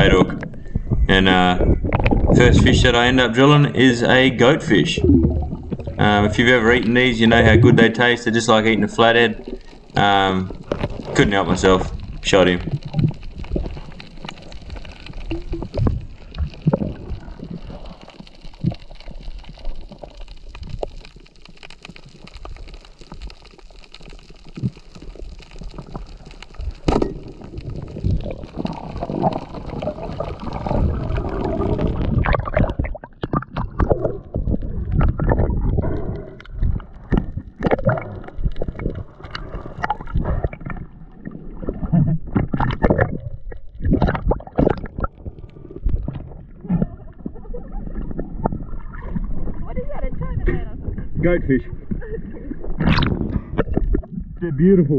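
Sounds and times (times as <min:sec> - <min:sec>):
water gurgling underwater: 0:00.0 - 0:54.5.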